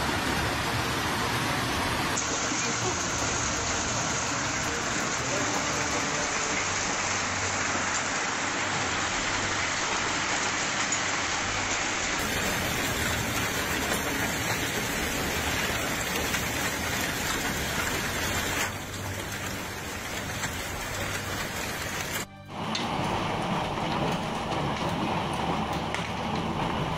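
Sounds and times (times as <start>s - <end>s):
heavy rain and hail: 0.0s - 26.9s.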